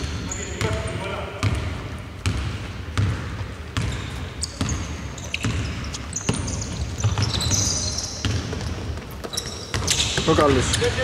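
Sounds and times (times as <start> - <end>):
basketball dribbling on gym court: 0.0 - 11.0
sneaker squeaks: 0.0 - 11.0.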